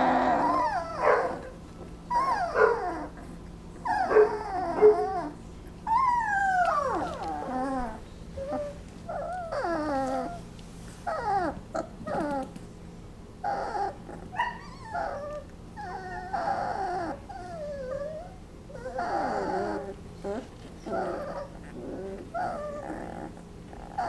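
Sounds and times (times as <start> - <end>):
puppies whimpering and squeaking: 0.0 - 12.5, 13.4 - 24.0.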